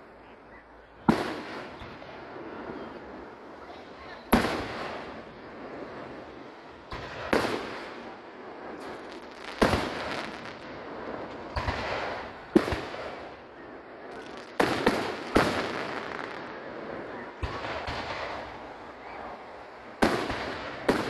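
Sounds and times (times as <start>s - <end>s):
fireworks booming: 1.0s - 21.0s.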